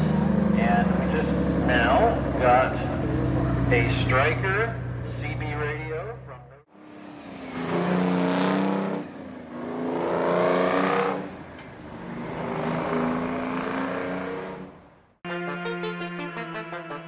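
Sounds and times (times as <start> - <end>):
diesel truck engine revving: 0.0 - 14.9.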